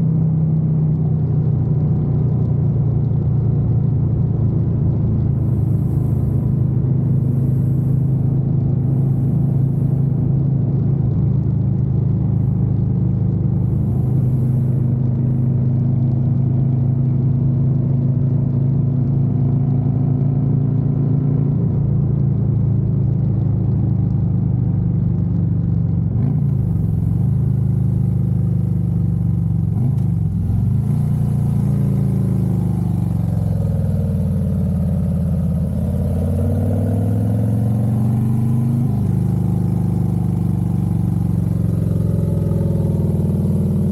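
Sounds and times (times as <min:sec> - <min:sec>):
motorcycle engine at road speed: 0:00.0 - 0:43.9.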